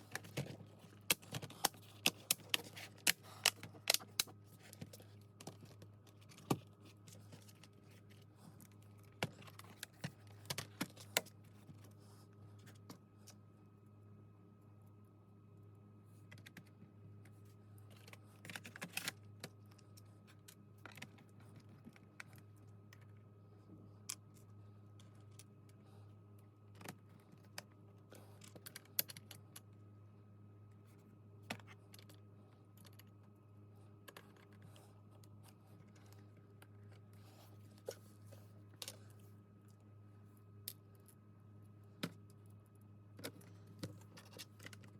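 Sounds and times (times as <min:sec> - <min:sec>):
low steady hum: 0:00.0 - 0:44.9.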